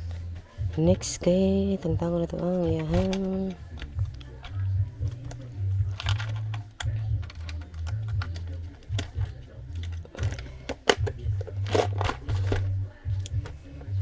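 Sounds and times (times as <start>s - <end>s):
low droning bass: 0.0s - 14.0s
hand tools clicking and tapping: 1.8s - 14.0s.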